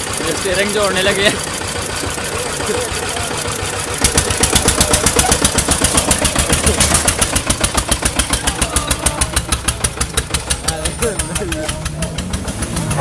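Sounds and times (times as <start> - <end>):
diesel engine chugging under load: 0.0 - 13.0.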